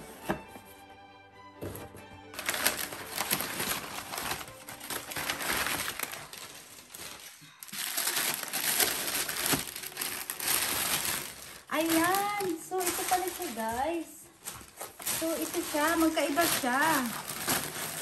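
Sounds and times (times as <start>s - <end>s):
packing paper crinkling: 2.3s - 18.0s
tissue paper rustling: 2.3s - 18.0s.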